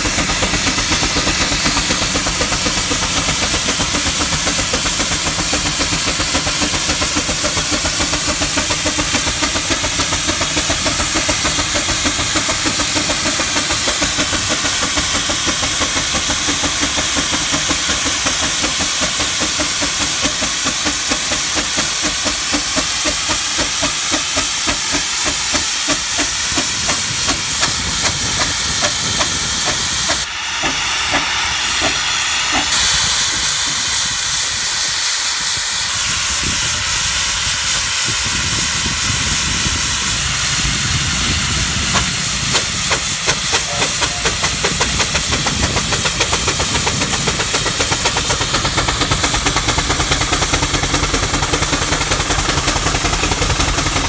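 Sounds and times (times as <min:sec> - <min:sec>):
steam engine exhaust beating: 0:00.0 - 0:54.0
steam hissing: 0:00.0 - 0:54.0.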